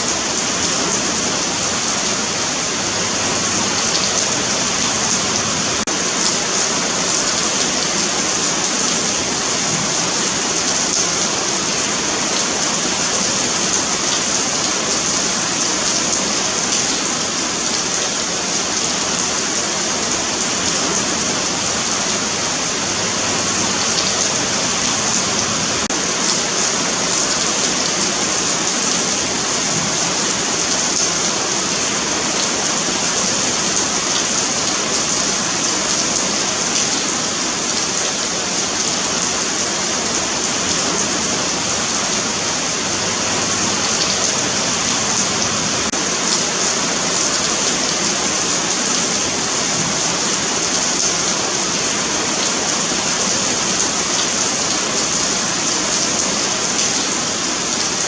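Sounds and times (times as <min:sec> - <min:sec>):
rain on pavement: 0:00.0 - 0:58.0.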